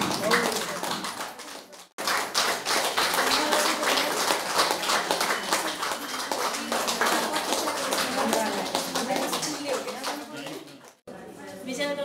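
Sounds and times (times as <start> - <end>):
audience clapping: 0.0 - 11.1.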